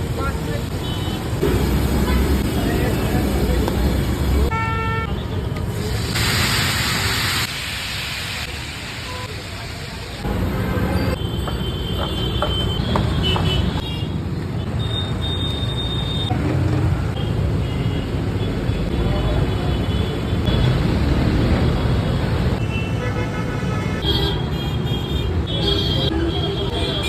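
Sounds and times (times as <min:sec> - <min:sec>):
busy road traffic: 0:00.0 - 0:27.0.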